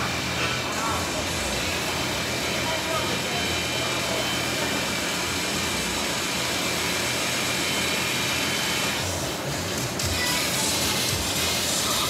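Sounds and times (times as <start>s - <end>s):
rowing machine fan whooshing: 0.0s - 12.0s.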